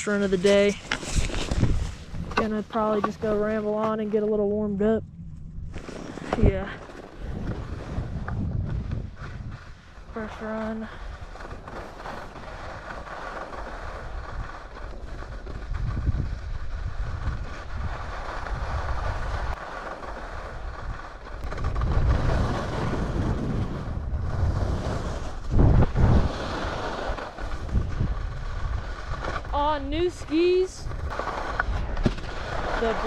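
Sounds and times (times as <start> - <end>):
skis scraping over frozen snow: 0.0 - 4.6, 5.7 - 33.0
wind rumbling on microphone: 0.0 - 33.0.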